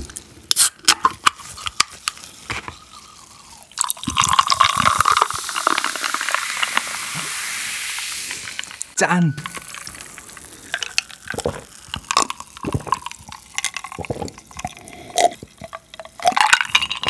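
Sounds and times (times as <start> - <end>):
drink fizzing: 0.5 - 17.0
drink pouring over ice: 2.2 - 17.0.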